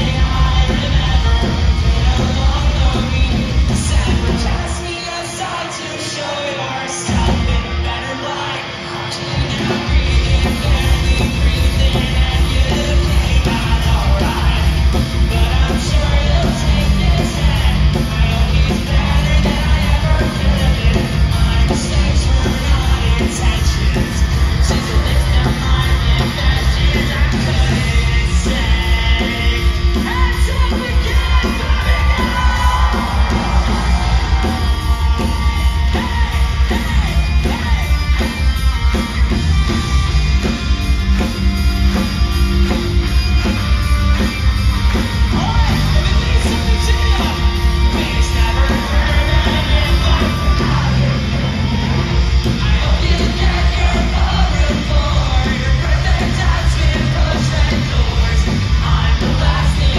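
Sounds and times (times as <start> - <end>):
live rock band playing: 0.0 - 59.9
singer singing and shouting: 0.0 - 59.9.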